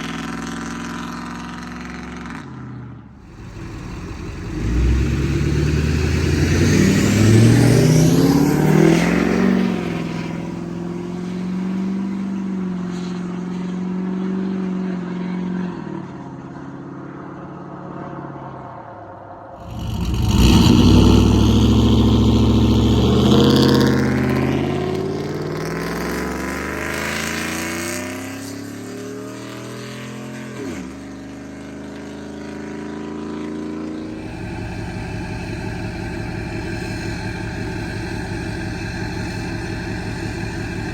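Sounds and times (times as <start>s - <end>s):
truck engine revving: 3.1s - 14.7s, 19.6s - 40.9s.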